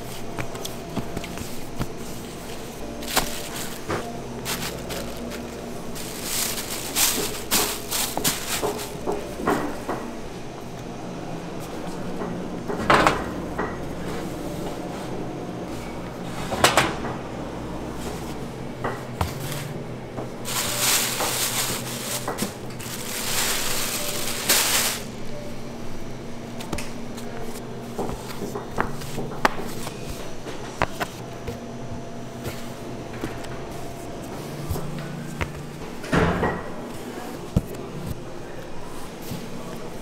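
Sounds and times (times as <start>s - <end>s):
machine hum: 0.0s - 40.0s.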